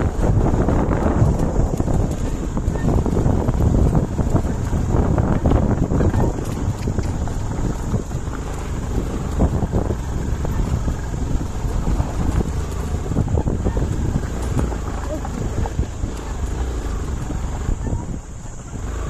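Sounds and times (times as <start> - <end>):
knocks and rattles: 0.0 - 18.8
motorcycle riding on dirt: 0.0 - 19.0
wind buffeting microphone: 0.0 - 19.0.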